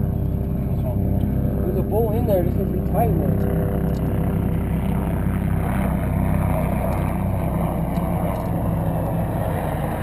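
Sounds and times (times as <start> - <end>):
race car engine running: 0.0 - 10.0.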